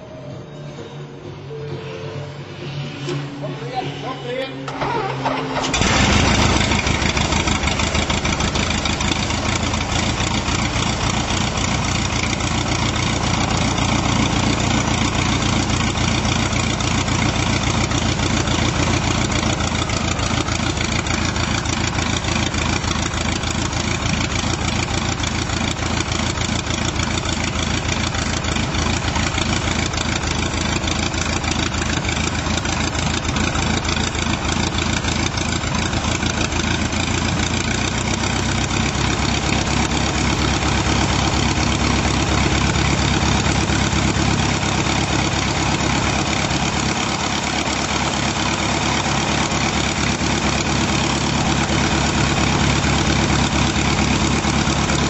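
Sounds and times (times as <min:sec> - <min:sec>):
propeller plane engine idling: 0:04.6 - 0:55.0.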